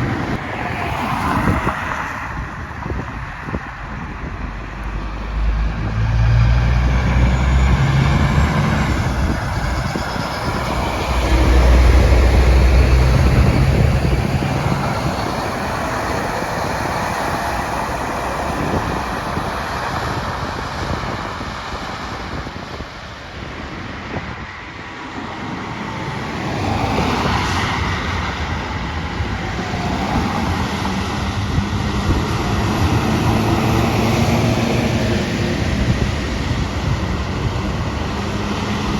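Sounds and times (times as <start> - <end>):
heavy trucks driving by: 0.0 - 38.9
road traffic passing: 0.0 - 38.9.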